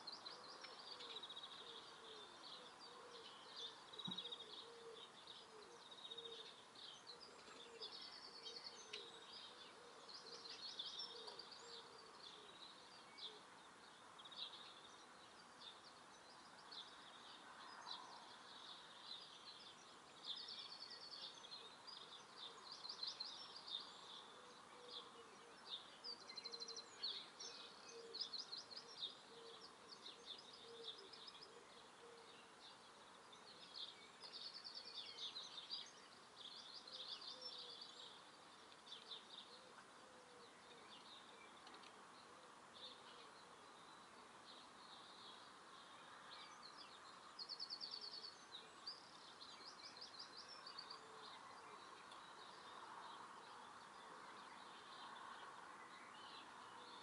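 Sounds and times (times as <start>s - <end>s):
small birds chirping: 0.0s - 57.0s
soft background noise: 0.0s - 57.0s.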